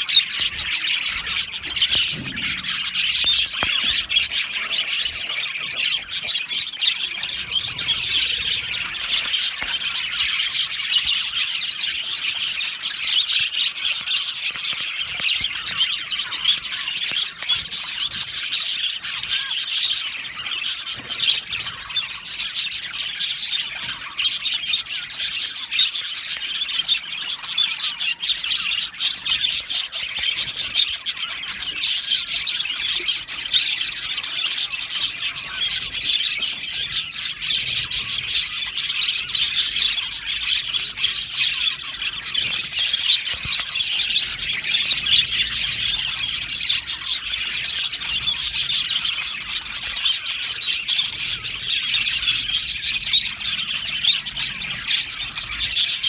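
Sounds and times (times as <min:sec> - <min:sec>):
budgerigars chirping and warbling: 0:00.0 - 0:56.0.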